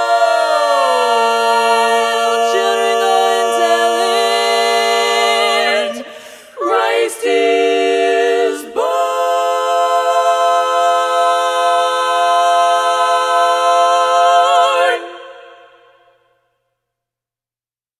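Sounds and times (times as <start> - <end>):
women singing a cappella harmony: 0.0 - 15.9.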